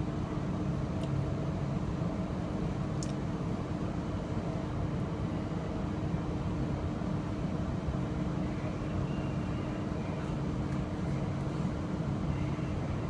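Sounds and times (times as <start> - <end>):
constant hum: 0.0 - 13.0.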